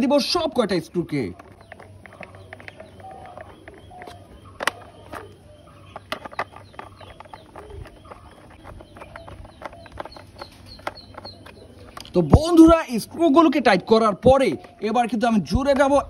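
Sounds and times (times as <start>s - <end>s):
faint birds calling: 0.0s - 16.0s.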